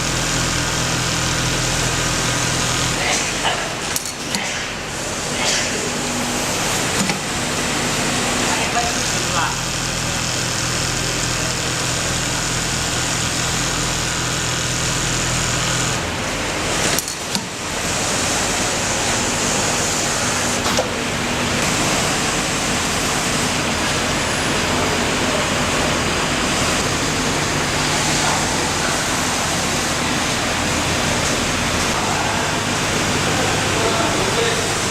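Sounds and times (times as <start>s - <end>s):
sewing machine running: 0.0s - 34.9s.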